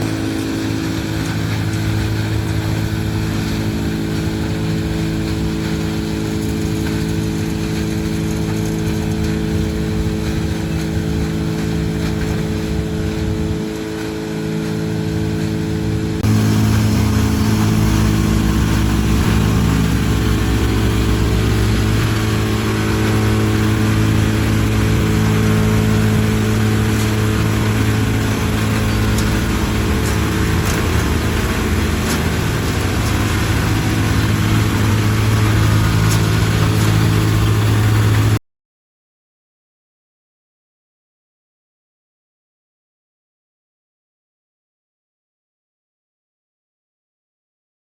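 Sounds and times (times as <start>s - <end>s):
crusher machine drone: 0.0s - 38.4s.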